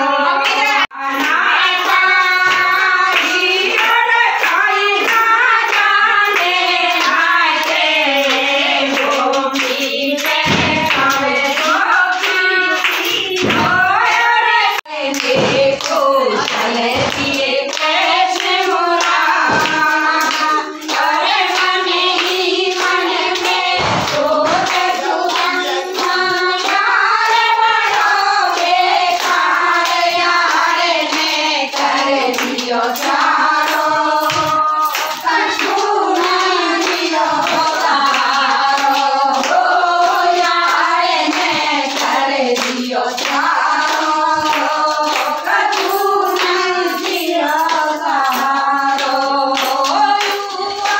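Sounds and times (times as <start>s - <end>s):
women singing together: 0.0s - 50.9s
hand clapping in time: 0.4s - 50.9s.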